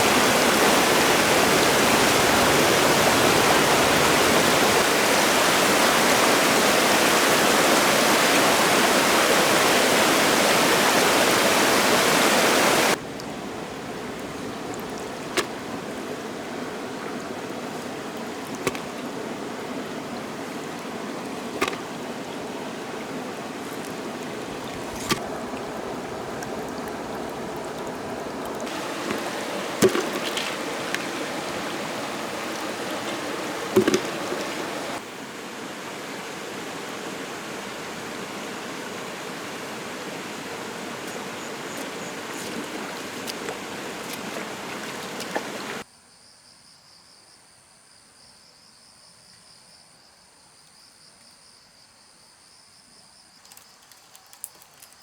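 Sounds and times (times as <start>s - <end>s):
stream water rushing: 0.0s - 45.8s.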